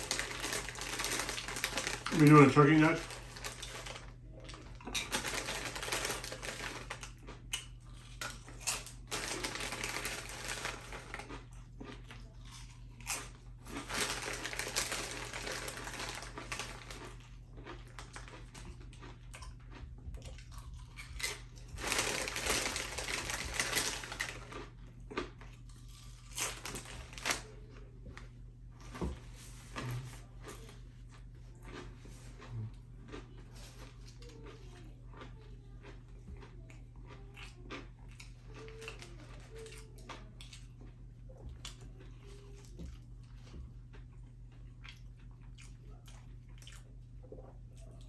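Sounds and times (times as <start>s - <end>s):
low electrical hum: 0.0s - 48.0s
person chewing and eating: 0.0s - 48.0s.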